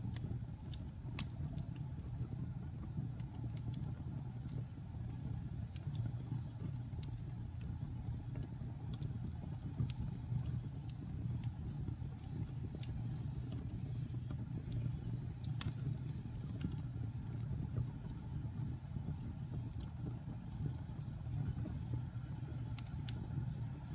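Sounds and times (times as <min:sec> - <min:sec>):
low rumble of burning fire: 0:00.0 - 0:23.9
wood fire popping and snapping: 0:00.0 - 0:23.9.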